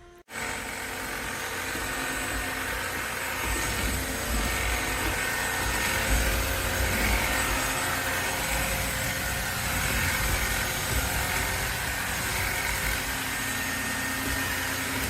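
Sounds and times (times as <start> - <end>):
cordless vacuum whining: 0.0 - 15.0.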